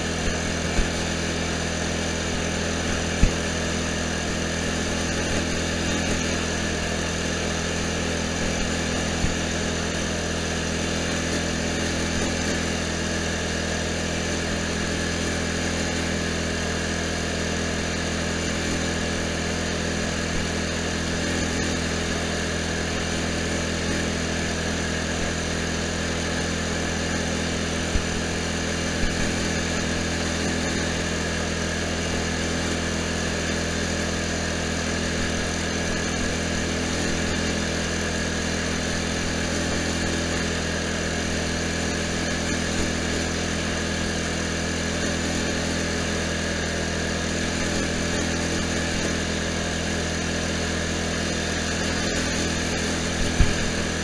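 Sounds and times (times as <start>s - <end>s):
lawn tractor engine running: 0.0s - 54.0s.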